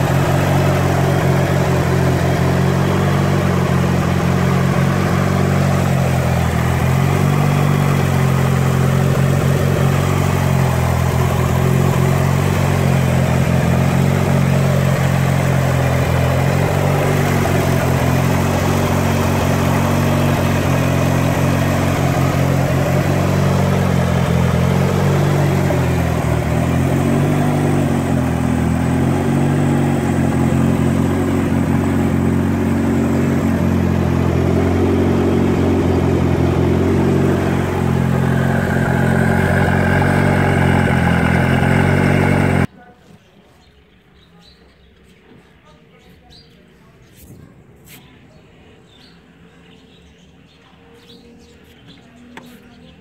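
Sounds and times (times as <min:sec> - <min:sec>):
car engine running: 0:00.0 - 0:42.7.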